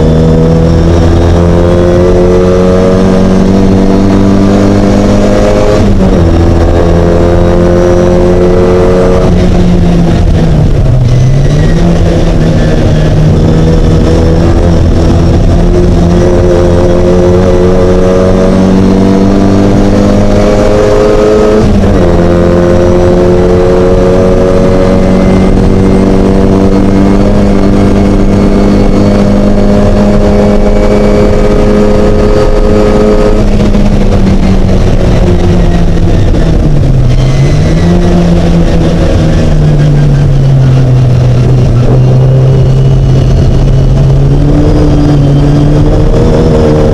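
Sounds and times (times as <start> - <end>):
race car engine at high revs: 0.0 - 46.9.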